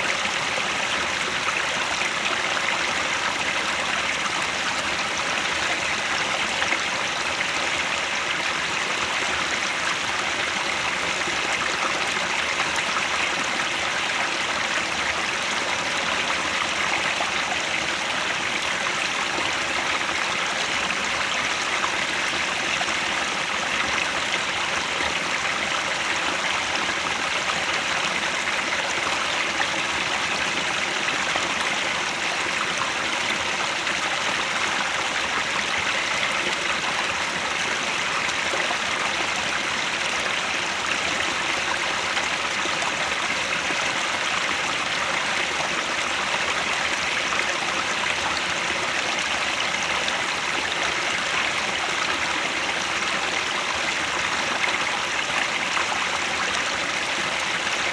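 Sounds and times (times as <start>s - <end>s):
stream flowing over rocks: 0.0s - 57.9s.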